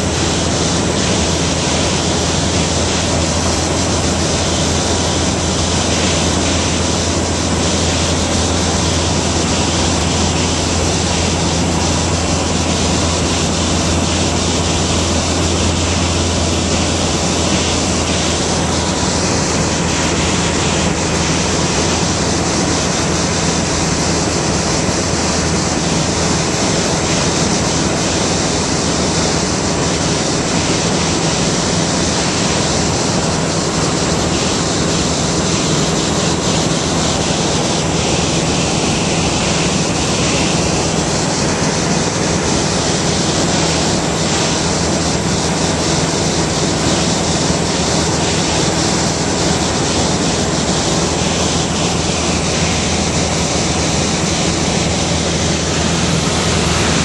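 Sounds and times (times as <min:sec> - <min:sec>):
aircraft cabin engine drone: 0:00.0 - 0:57.0.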